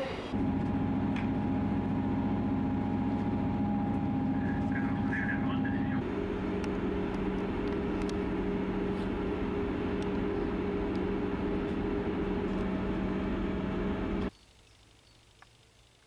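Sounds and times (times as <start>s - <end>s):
vehicle running heard from inside: 0.3s - 14.3s.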